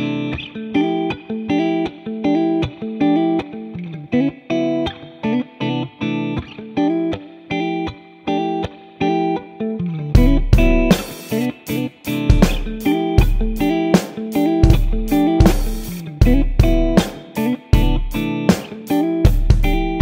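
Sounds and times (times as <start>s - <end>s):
plucked-string music: 0.0s - 20.0s.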